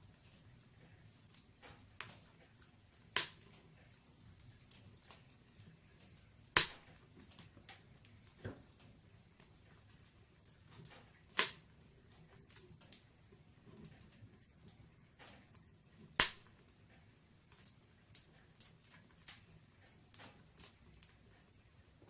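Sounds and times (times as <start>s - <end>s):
firewood crackling in a fireplace: 0.0s - 22.0s.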